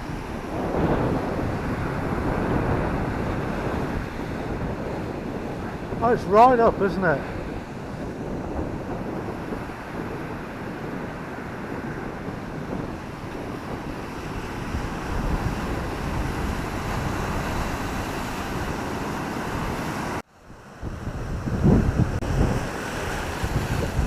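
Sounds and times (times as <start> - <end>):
sea waves washing on beach: 0.0 - 24.0
wind buffeting microphone: 0.0 - 24.0.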